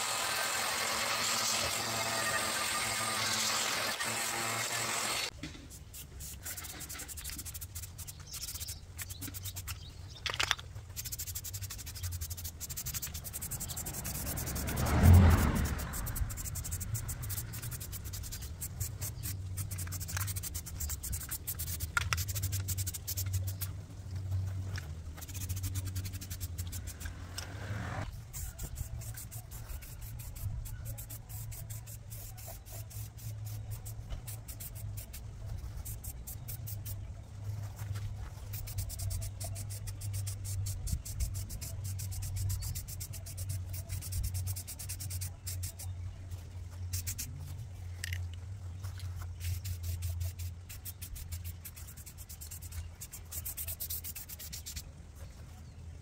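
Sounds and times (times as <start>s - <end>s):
rapid scraping and scratching: 4.9s - 55.8s.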